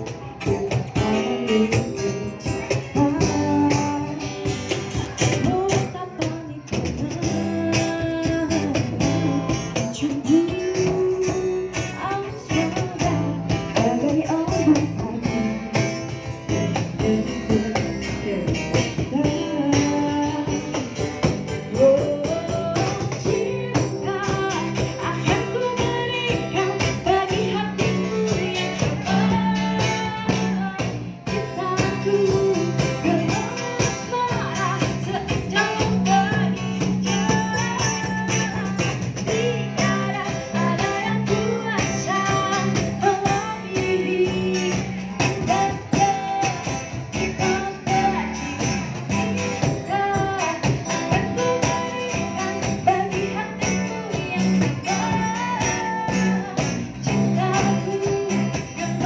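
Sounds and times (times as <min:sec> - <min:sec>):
vocal group singing pop song: 0:00.0 - 0:59.0.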